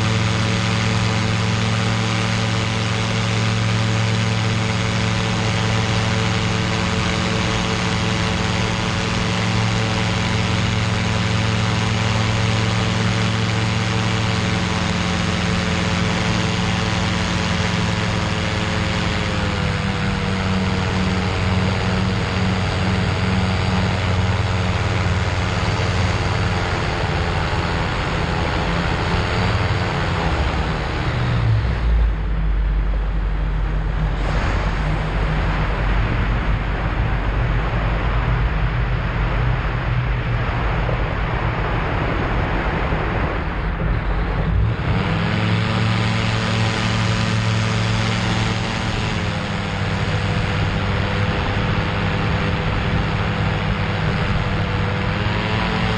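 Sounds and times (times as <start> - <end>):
heavy low rumble: 0.0 - 55.9
light aircraft engine and propeller: 0.0 - 55.9.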